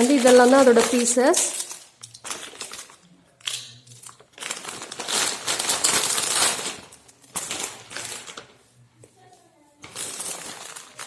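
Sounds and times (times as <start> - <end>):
plastic packets crinkling: 0.0 - 8.6, 9.8 - 11.0.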